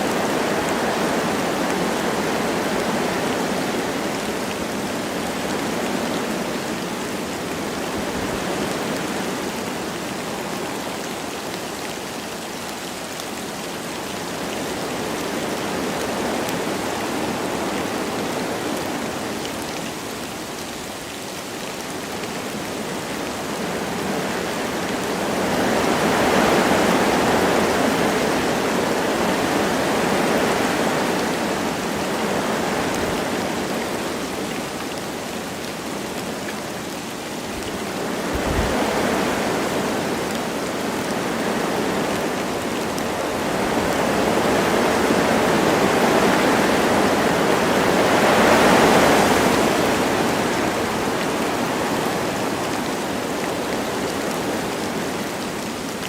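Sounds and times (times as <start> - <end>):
light rain falling: 0.0 - 56.0
wind gusting through trees: 0.0 - 56.0.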